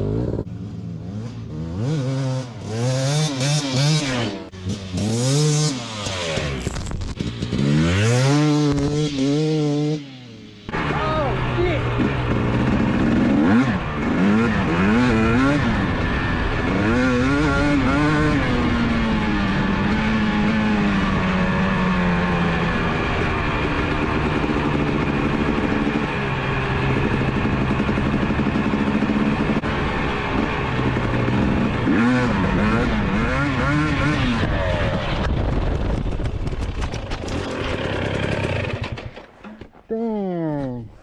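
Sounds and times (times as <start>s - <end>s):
dirt bike engine revving: 0.0s - 36.0s, 37.2s - 39.6s.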